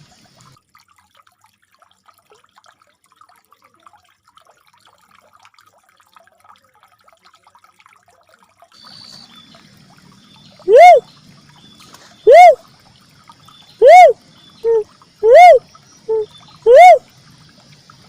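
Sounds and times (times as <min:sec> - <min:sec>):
faint trickling water: 0:00.0 - 0:18.0
small drips and ticks: 0:00.0 - 0:18.0.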